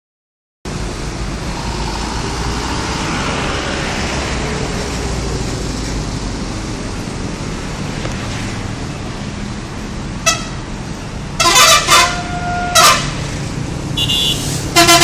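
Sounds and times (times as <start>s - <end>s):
road traffic rumble: 0.7s - 15.0s.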